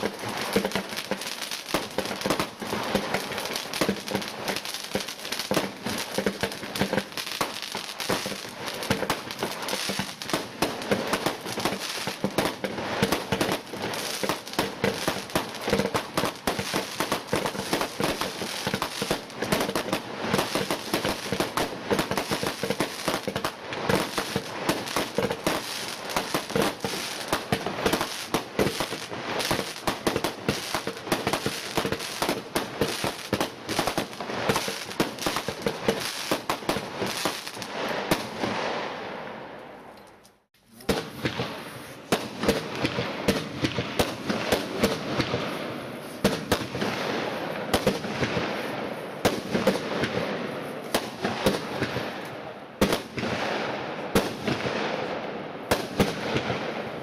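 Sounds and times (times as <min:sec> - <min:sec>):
fireworks pops bangs and crackles: 0:00.0 - 0:57.0.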